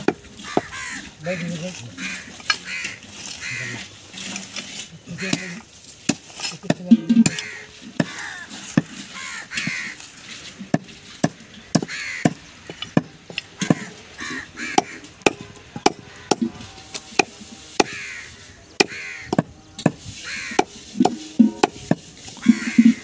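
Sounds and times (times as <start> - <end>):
birds calling: 0.0 - 4.2, 6.8 - 10.4, 11.0 - 23.0.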